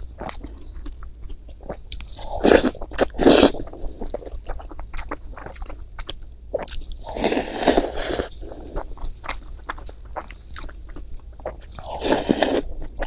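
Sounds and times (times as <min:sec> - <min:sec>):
person chewing noodles: 0:00.1 - 0:13.0.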